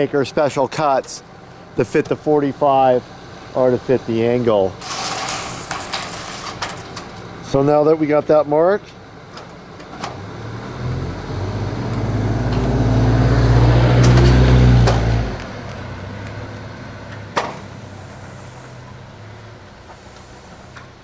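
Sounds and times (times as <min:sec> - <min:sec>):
truck engine passing by: 0:00.0 - 0:21.0.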